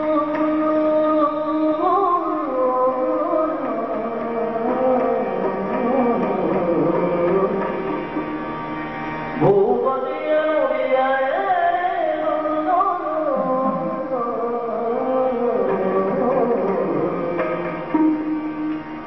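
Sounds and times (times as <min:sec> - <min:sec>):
man singing with ornamented pitches: 0:00.0 - 0:08.2, 0:09.4 - 0:18.5.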